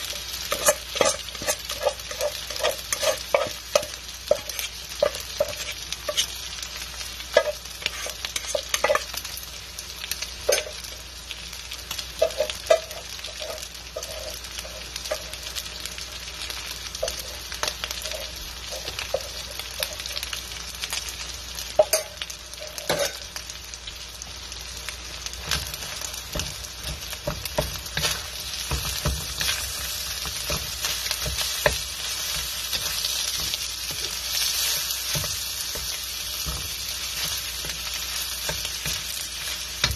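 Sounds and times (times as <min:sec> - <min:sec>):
wooden spoon scraping a wok: 0:00.0 - 0:09.3, 0:12.0 - 0:16.0, 0:16.9 - 0:20.3, 0:21.8 - 0:23.3, 0:25.2 - 0:39.9
food sizzling in a wok: 0:00.0 - 0:39.9.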